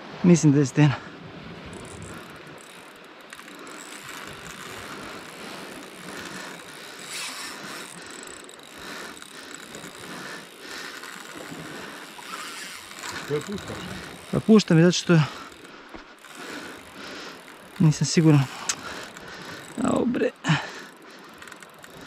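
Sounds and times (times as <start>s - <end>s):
fishing reel clicking and whirring: 1.6s - 22.0s.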